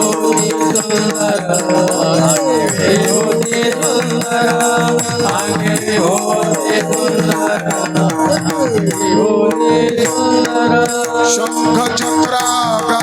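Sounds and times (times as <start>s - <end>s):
held drone tones: 0.0s - 12.0s
fast metallic percussion: 0.0s - 13.0s.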